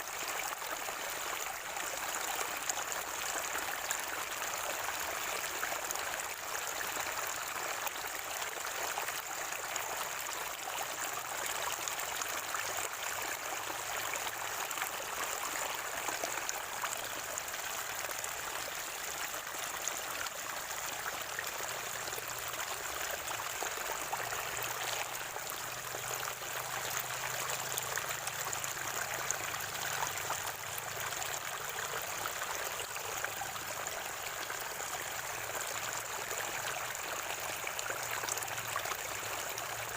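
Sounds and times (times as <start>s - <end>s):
spring water gurgling: 0.0s - 39.9s.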